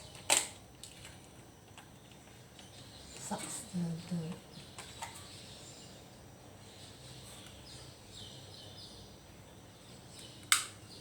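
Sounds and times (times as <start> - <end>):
faint birds chirping: 1.4 - 11.0.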